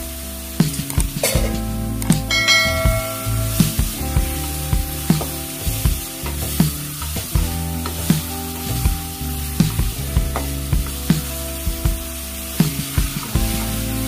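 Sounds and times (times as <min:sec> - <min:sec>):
chicken sizzling in oil: 0:00.1 - 0:14.0.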